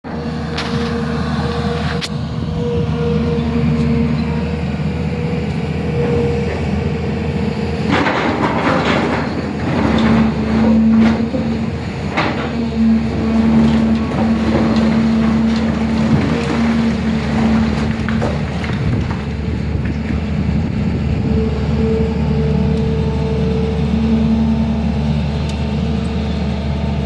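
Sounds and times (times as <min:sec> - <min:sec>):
machine clanking and scraping: 0:00.0 - 0:26.1
excavator diesel engine running: 0:00.0 - 0:27.0.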